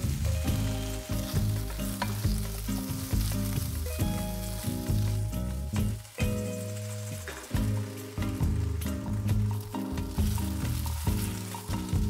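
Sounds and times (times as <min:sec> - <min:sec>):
background music: 0:00.0 - 0:12.0
tofu sizzling in hot oil: 0:00.0 - 0:12.0.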